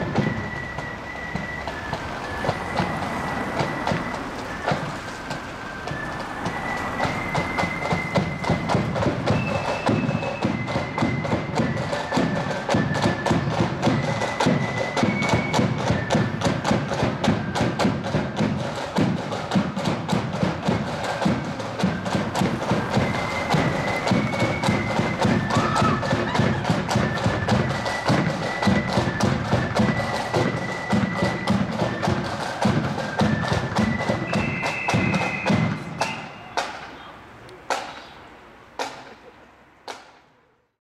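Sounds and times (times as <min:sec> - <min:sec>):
marching band melody: 0:00.0 - 0:38.2
rapid drum strokes: 0:01.4 - 0:37.0.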